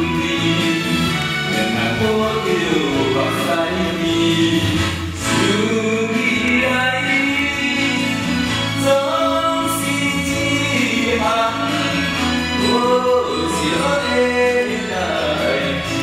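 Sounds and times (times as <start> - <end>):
backing band playing: 0.0 - 16.0
person singing: 0.0 - 16.0.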